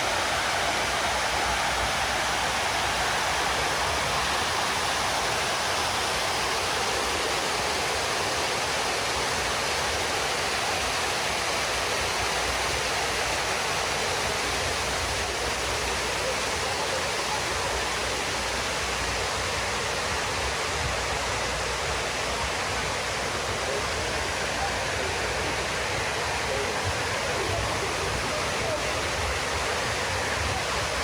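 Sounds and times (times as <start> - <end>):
water cascading into pool: 0.0 - 31.0.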